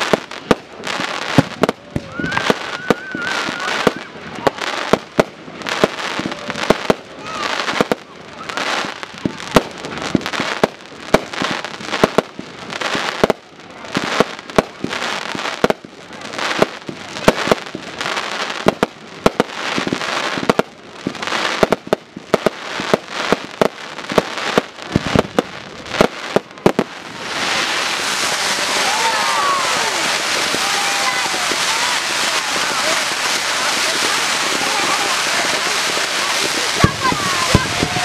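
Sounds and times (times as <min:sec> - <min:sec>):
fireworks bangs: 0:00.0 - 0:38.0
fireworks hissing and crackling: 0:00.0 - 0:38.0.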